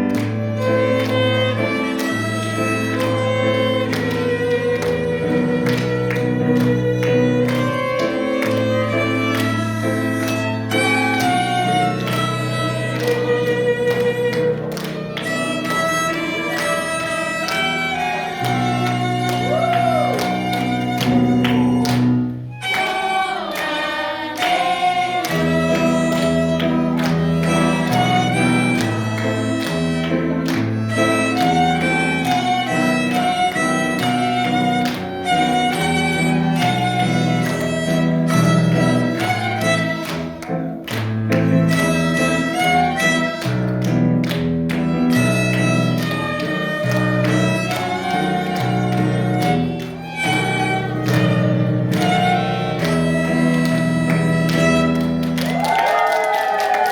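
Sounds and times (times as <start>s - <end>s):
violin melody: 0.0s - 55.6s.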